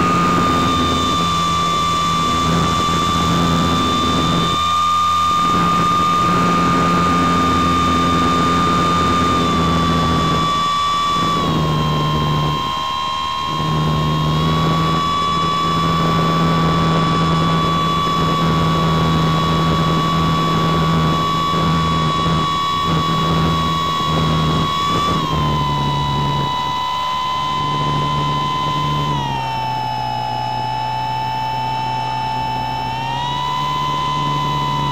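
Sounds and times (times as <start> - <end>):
motor and propeller whine: 0.0 - 34.9.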